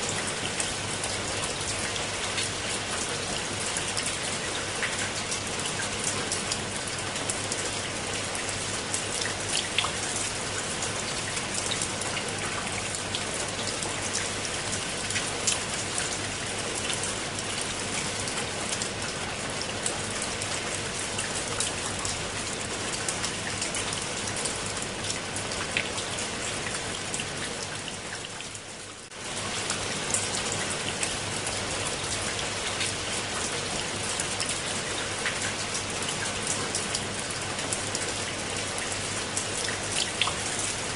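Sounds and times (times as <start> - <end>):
rain on stone and plants: 0.0 - 40.9.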